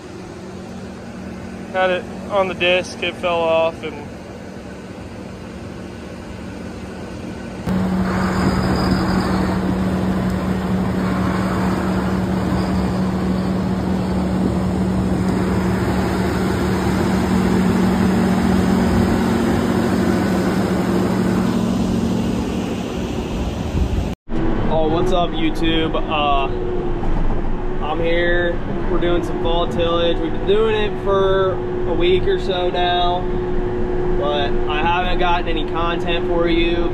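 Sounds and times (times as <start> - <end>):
quiet engine hum: 0.0 - 36.9
tractor diesel engine drone: 0.0 - 36.9.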